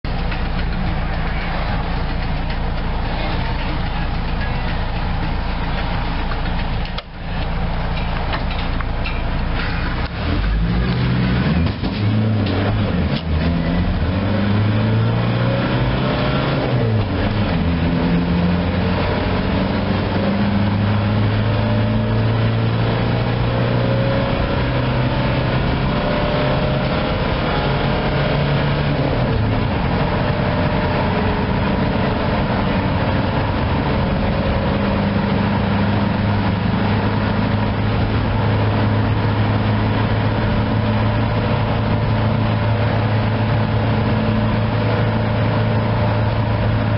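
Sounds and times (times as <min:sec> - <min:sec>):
diesel engine accelerating: 0:00.0 - 0:46.9.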